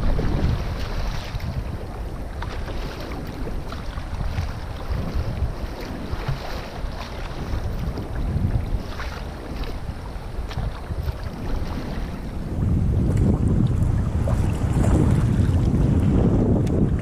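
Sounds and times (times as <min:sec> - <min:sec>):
choppy sea water: 0:00.0 - 0:17.0
wind on microphone: 0:00.0 - 0:17.0.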